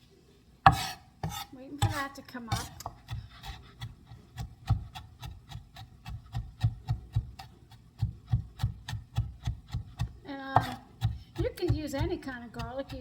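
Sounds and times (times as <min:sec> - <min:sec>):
knife chopping on cutting board: 0:00.7 - 0:13.0.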